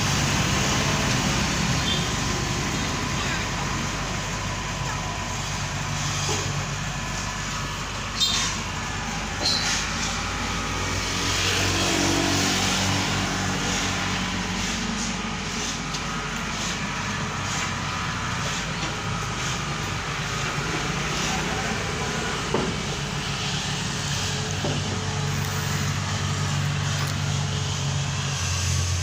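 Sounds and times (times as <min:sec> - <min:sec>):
heavy vehicle engine running: 0:00.0 - 0:29.0.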